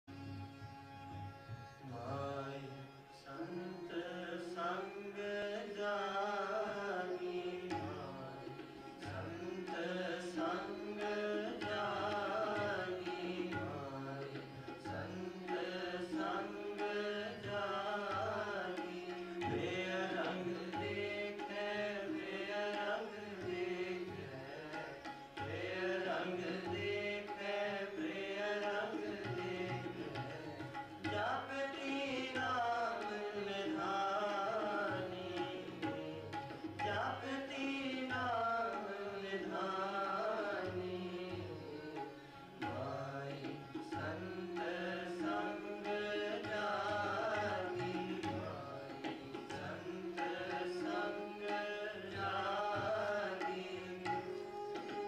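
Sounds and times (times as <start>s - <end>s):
harmonium notes: 0.1s - 55.0s
tabla rhythm: 6.0s - 55.0s.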